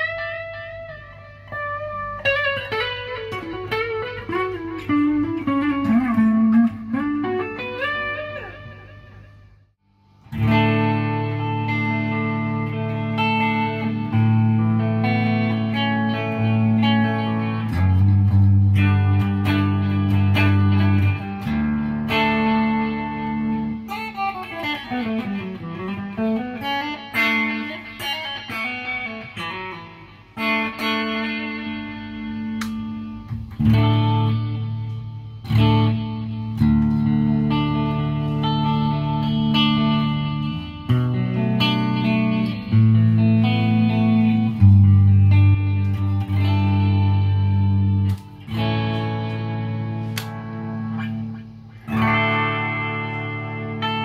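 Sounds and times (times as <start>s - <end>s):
clean electric guitar chords: 0.0s - 54.0s.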